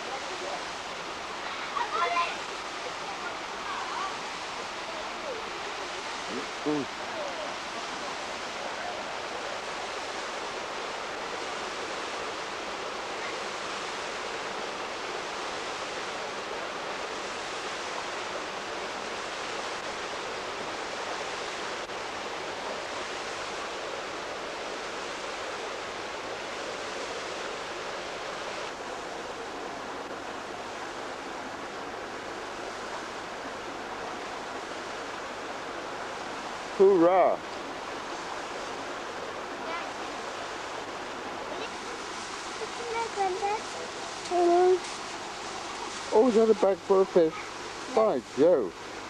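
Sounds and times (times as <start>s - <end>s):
stream rushing over stones: 0.0s - 49.0s.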